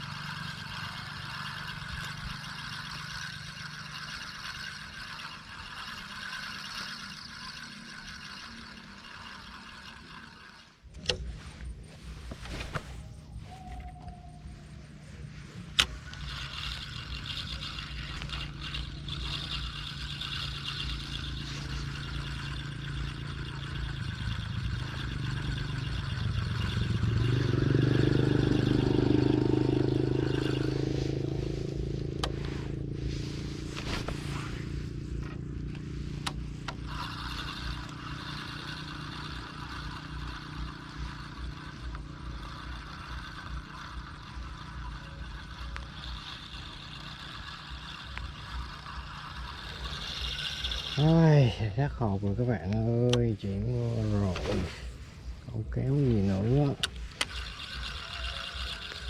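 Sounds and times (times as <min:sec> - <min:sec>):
small engine passing by: 0:00.0 - 0:59.0
steady low hum: 0:00.0 - 0:59.0.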